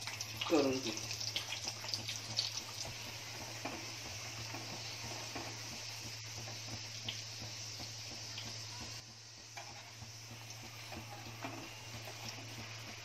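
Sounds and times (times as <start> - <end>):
dough sizzling in hot oil: 0.0 - 13.0.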